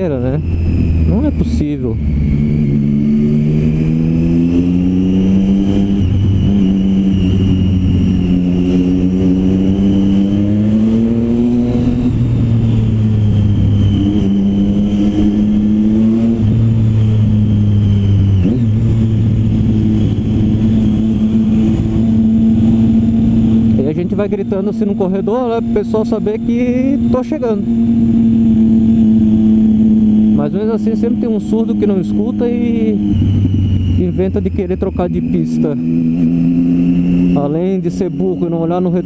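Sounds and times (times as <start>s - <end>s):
motorcycle engine revving high: 0.0s - 39.0s.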